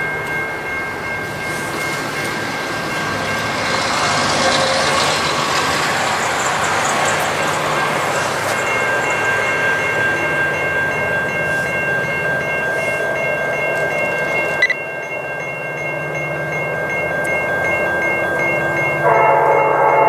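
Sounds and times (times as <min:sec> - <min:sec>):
crossing warning bells ringing: 0:00.0 - 0:20.0.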